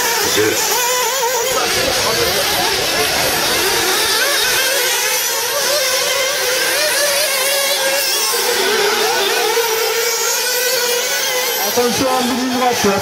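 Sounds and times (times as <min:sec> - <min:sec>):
model car engines whining: 0:00.0 - 0:13.0.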